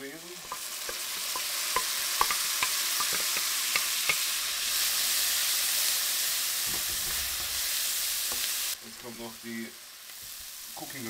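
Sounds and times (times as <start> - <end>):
frying crackles and pops: 0.0 - 11.0
vegetables sizzling in a frying pan: 0.0 - 11.0.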